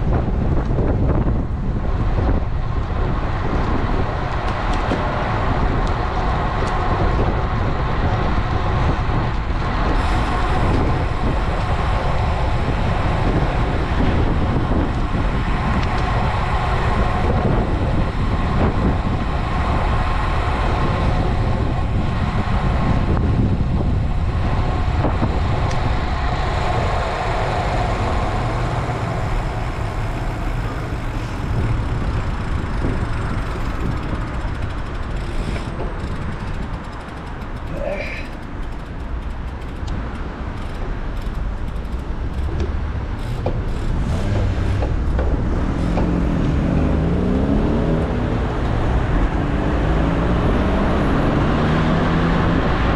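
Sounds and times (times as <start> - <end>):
passing motor traffic: 0.0 - 52.9
road noise from bike: 0.0 - 52.9
wind rush: 0.0 - 52.9.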